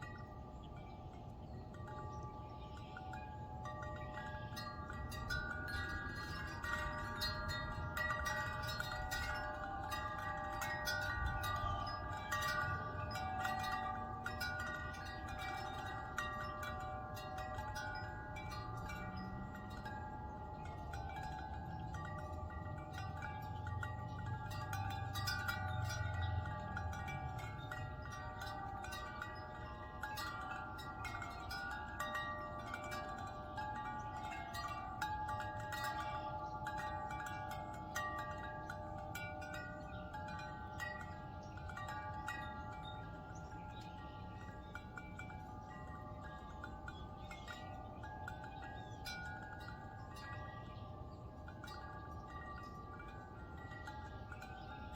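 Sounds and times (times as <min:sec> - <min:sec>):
wind chimes ringing: 0:00.0 - 0:54.9.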